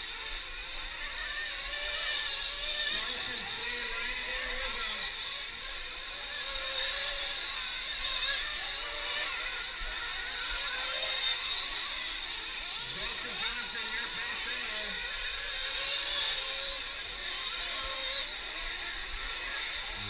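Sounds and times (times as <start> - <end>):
rc truck engines buzzing: 0.0 - 20.0.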